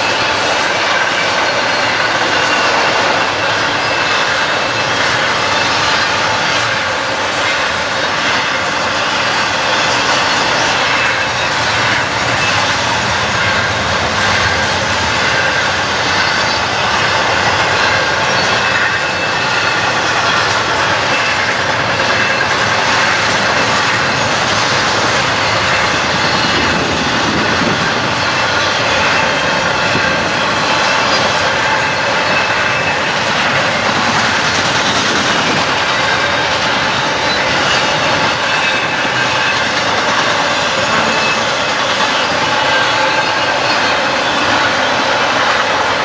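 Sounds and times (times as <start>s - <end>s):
train wheels rushing on rails: 0.0s - 46.0s.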